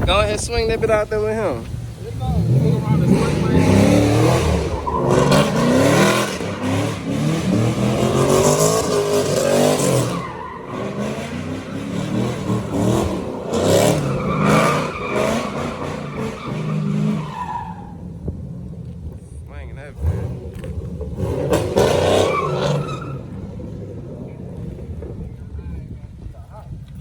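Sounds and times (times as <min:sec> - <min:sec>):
tyres skidding and squealing: 0:00.0 - 0:27.0
engine revving: 0:01.4 - 0:25.9.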